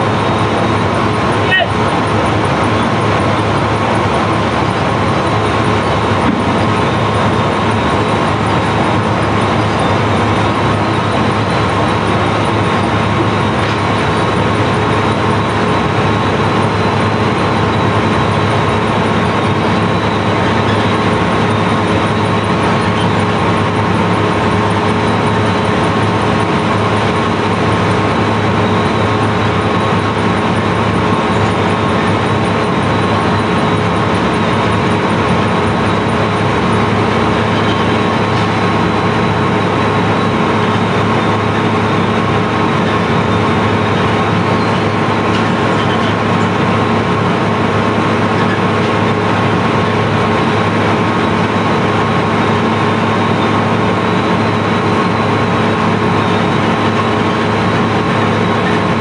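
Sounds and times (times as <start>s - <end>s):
high machine whine: 0.0s - 59.0s
machinery droning: 0.0s - 59.0s.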